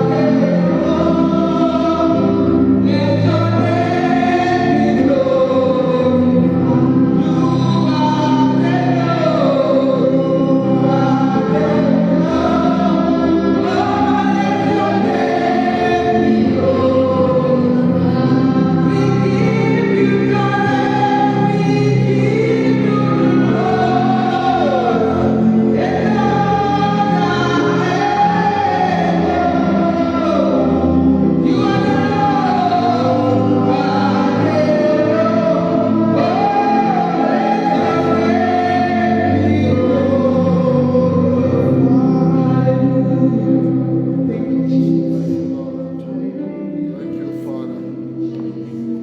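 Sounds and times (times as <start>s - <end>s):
gospel choir singing: 0.0s - 49.0s.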